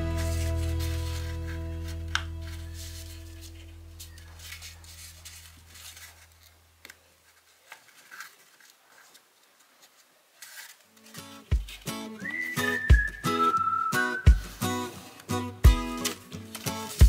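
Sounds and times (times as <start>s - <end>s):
paper rustling and crinkling: 0.0s - 12.9s, 14.4s - 17.0s.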